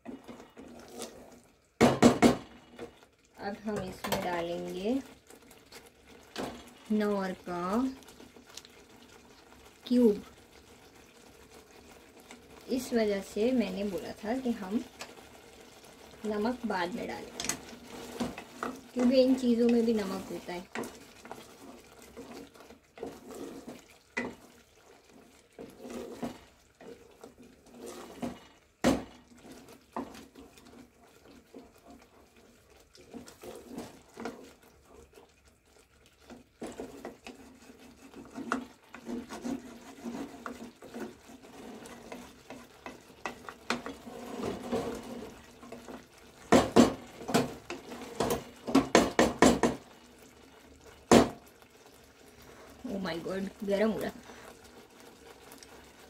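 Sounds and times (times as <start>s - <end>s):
wooden spoon stirring in pot: 0.0s - 56.0s.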